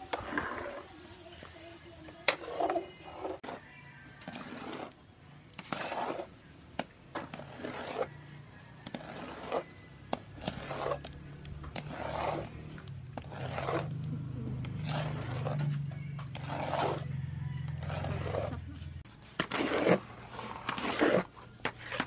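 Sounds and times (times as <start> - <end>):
wooden paddle scraping metal wok: 0.0 - 22.0.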